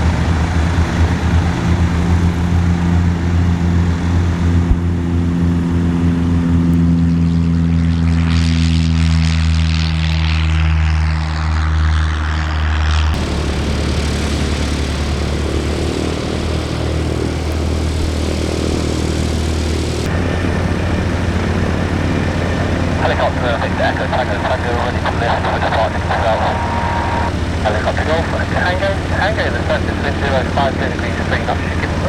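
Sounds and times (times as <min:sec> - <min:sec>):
propeller aircraft engine: 0:00.0 - 0:32.0.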